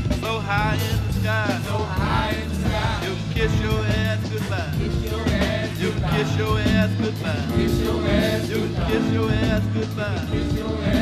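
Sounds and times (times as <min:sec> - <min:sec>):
steady bass line: 0:00.0 - 0:11.0
wavering singing voice: 0:00.2 - 0:11.0.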